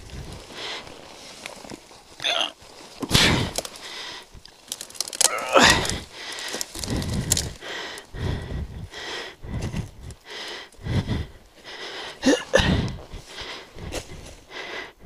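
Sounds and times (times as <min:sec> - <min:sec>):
twigs snapping: 0:00.0 - 0:14.5
brush rustling: 0:00.0 - 0:14.9
man breathing hard: 0:00.1 - 0:01.2, 0:03.1 - 0:04.4, 0:05.0 - 0:15.0.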